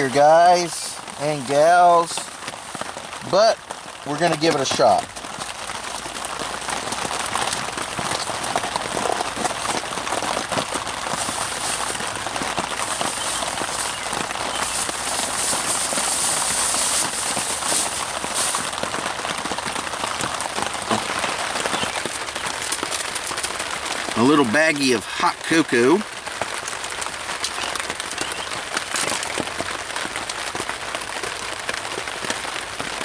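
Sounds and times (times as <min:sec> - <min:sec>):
rain pattering on a tarp: 0:00.0 - 0:33.0.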